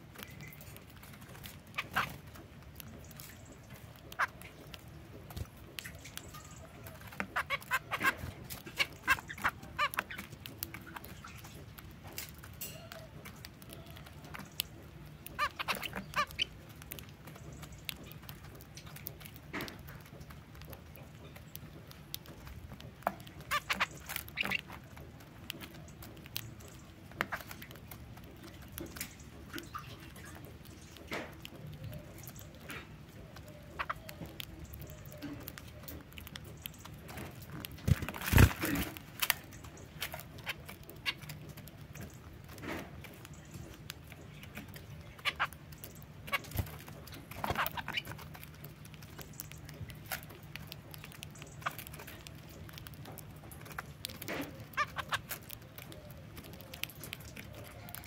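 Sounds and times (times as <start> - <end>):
finches pecking seed: 0.0 - 58.0.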